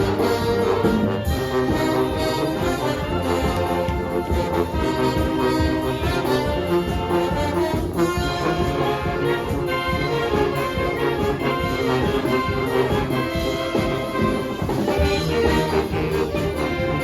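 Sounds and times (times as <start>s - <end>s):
brass band playing pop songs: 0.0s - 17.0s
steady drum beat: 0.0s - 17.0s.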